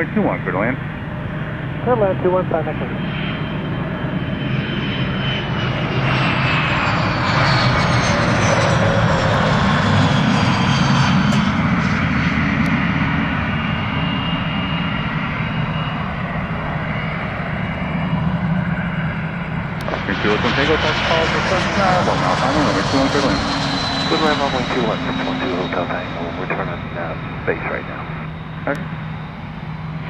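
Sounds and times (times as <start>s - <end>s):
jet engine rumble and whine: 0.0s - 30.0s.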